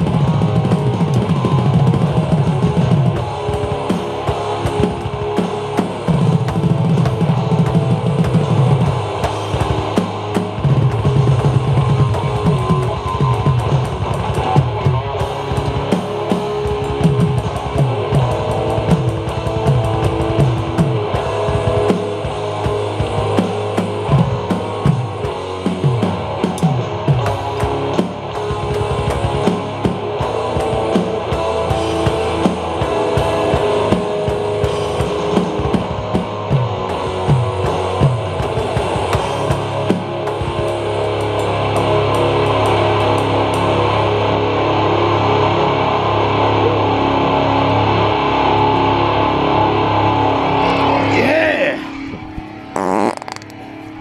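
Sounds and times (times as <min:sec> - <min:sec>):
drum kit playing: 0:00.0 - 0:42.8, 0:50.5 - 0:54.0
recorded rock song with guitar: 0:00.0 - 0:54.0.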